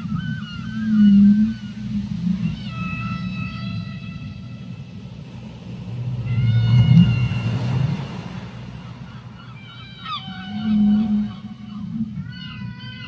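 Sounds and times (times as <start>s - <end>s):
constant low rumble: 0.0s - 13.0s
whale calls under water: 0.0s - 13.0s.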